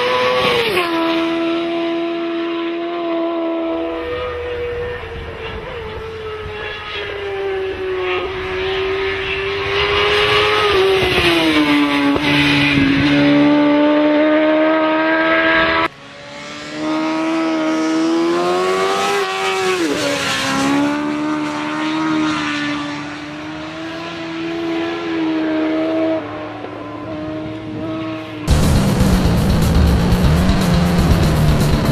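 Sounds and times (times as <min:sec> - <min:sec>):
motorcycle engine at high revs: 0:00.0 - 0:31.9.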